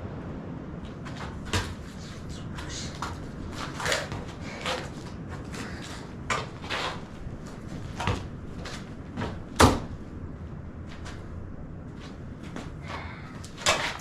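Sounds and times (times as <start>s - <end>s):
wind rumble: 0.0s - 14.0s.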